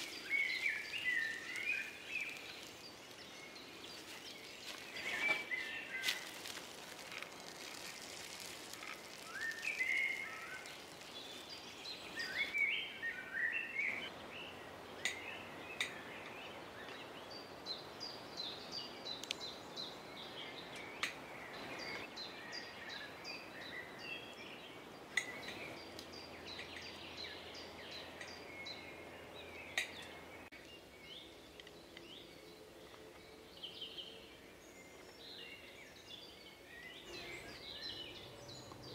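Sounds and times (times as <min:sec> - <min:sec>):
birds chirping and trilling: 0:00.0 - 0:38.9
soft outdoor hiss: 0:00.0 - 0:38.9.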